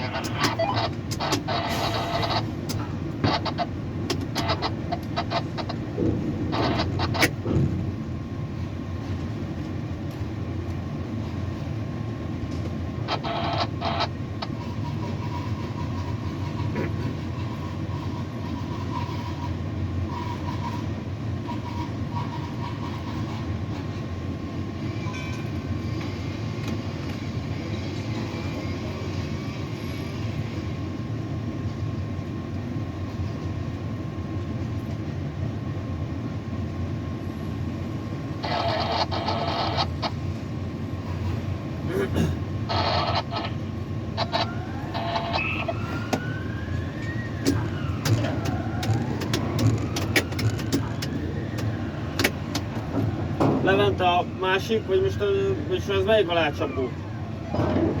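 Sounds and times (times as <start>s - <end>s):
crane machinery rumbling: 0.0s - 54.5s, 57.0s - 58.0s
faint machinery whine: 0.0s - 58.0s.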